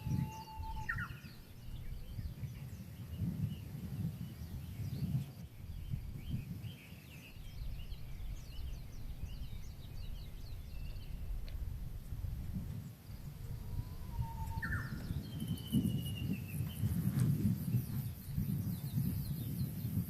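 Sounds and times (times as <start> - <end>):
small birds chirping: 0.0 - 20.0
wind buffeting microphone: 0.0 - 20.0.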